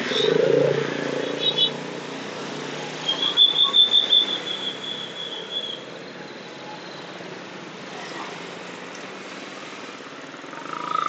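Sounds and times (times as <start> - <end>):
low traffic hum: 0.0 - 11.0.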